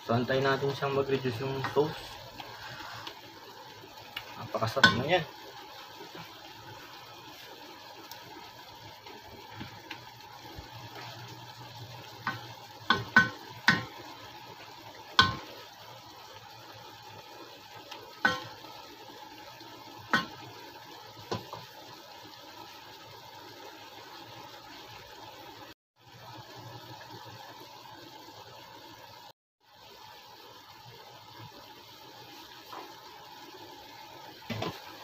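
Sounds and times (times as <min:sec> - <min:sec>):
sauce simmering and bubbling: 0:00.0 - 0:35.0.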